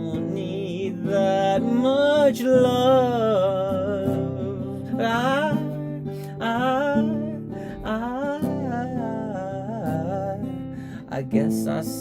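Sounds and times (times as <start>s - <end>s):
man singing: 0.0s - 12.0s
strummed acoustic guitar: 0.0s - 12.0s.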